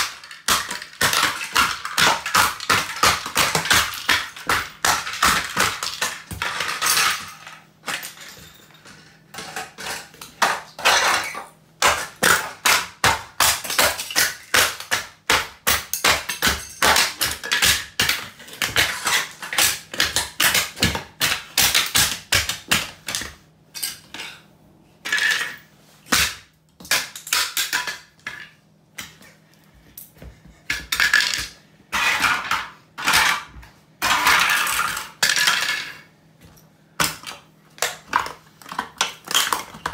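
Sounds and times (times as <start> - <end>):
plastic fragments clattering on tiles: 0.0 - 12.6, 15.9 - 23.2, 25.0 - 29.1, 30.7 - 36.1, 37.0 - 39.9.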